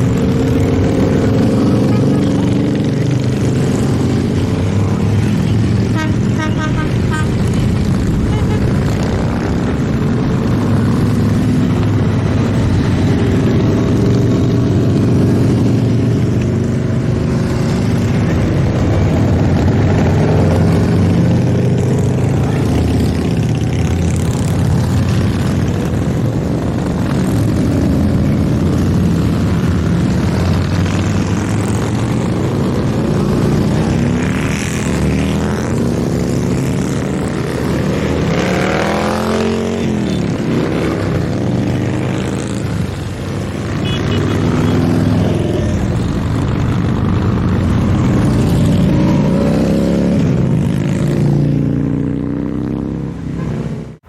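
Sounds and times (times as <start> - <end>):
motorcycle engines droning: 0.0 - 54.0
motorcycle passing by: 0.0 - 54.0.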